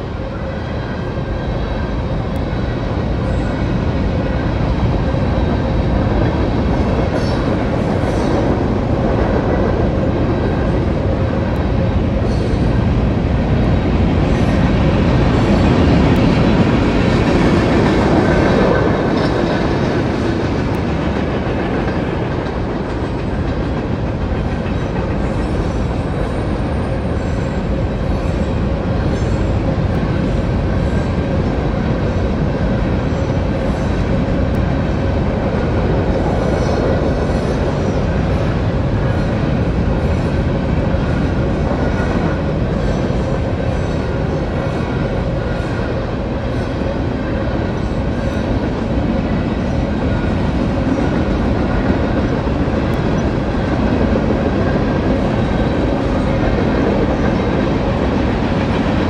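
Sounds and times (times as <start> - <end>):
train wheels clattering on rails: 2.3 - 59.0.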